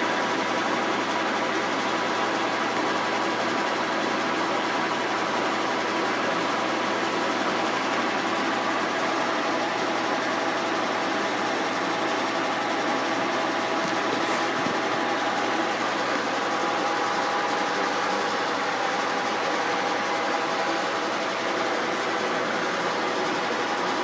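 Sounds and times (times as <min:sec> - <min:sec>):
milling machine humming and whining: 0:00.0 - 0:24.0.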